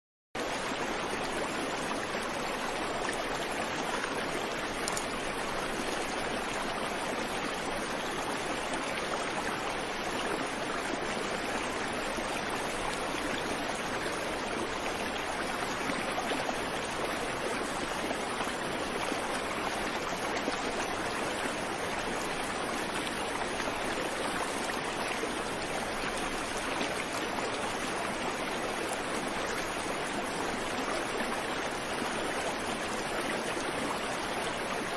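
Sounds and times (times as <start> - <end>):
creek water running over rocks: 0.4 - 34.9.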